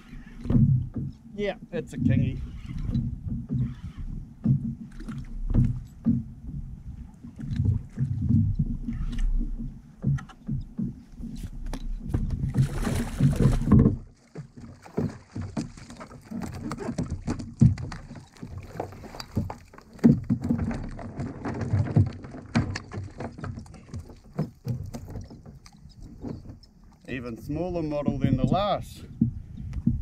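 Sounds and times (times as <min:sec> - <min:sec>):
water splashing against kayak: 0:00.0 - 0:30.0
knocks and thumps on kayak hull: 0:00.1 - 0:30.0.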